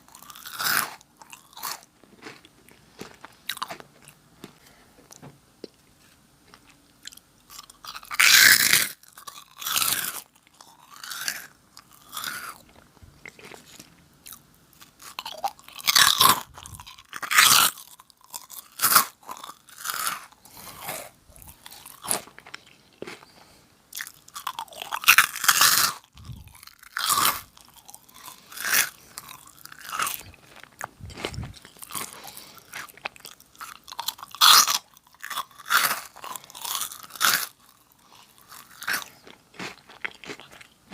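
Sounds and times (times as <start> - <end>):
crunching and chewing snack: 0.0 - 40.9.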